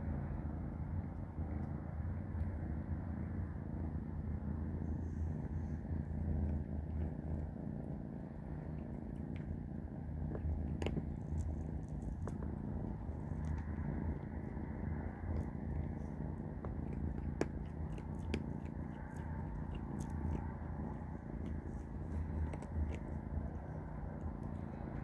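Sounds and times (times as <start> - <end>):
kitten purring: 0.0 - 25.0.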